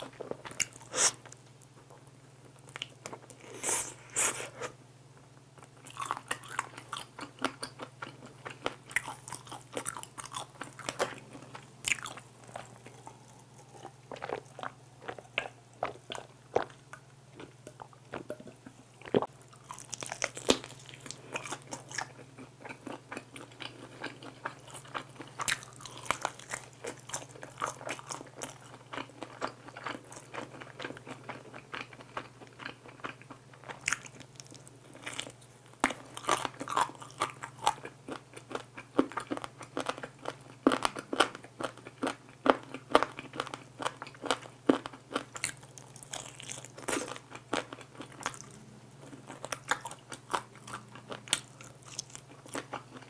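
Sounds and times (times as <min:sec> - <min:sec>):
chewing crispy chicken: 0:05.6 - 0:53.0.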